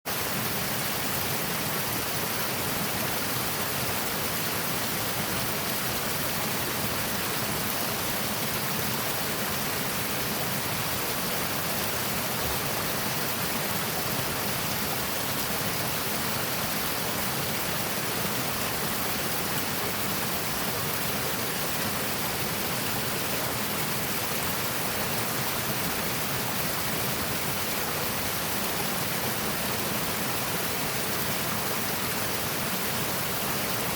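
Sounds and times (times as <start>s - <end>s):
creek water rushing over rocks: 0.1s - 33.9s.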